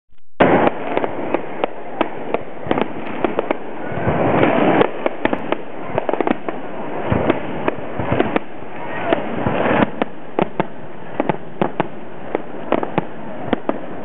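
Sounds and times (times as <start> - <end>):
continuous wash of noise: 0.4 - 14.0
fireworks bangs: 0.4 - 14.0.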